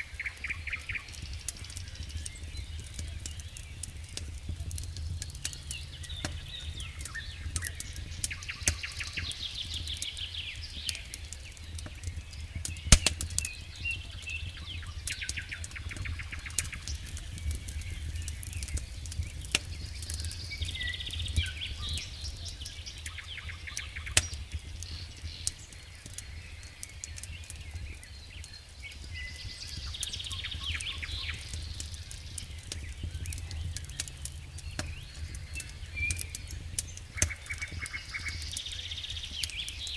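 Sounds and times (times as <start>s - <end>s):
campfire crackling and popping: 0.0s - 39.9s
small birds singing trills: 0.0s - 39.9s.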